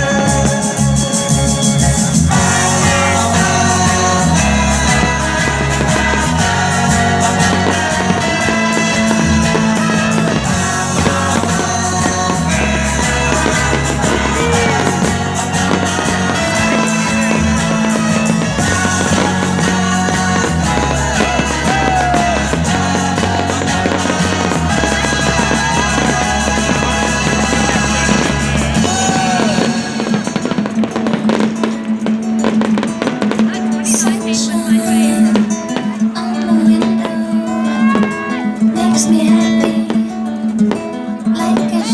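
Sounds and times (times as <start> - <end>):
fireworks crackling and popping: 0.0 - 41.9
loud rock music: 0.0 - 41.9.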